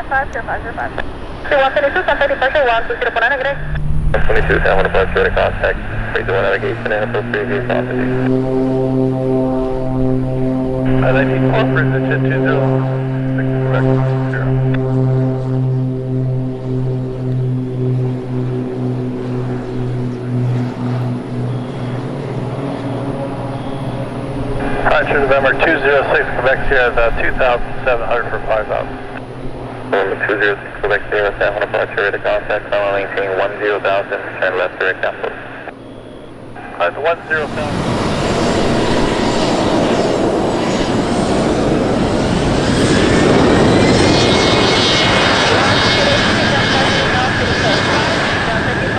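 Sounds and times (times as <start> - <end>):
twin engine propeller plane droning: 0.0 - 48.9.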